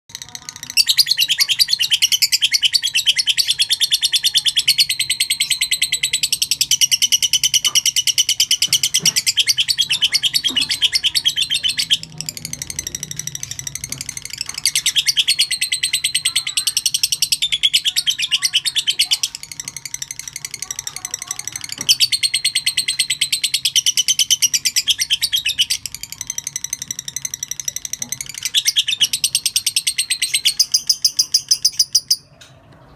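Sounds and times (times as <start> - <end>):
lovebird chattering song: 0.1 - 32.4.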